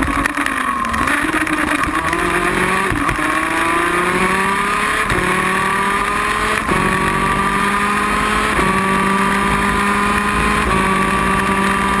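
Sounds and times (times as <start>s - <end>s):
kart engine at full throttle: 0.0s - 12.0s.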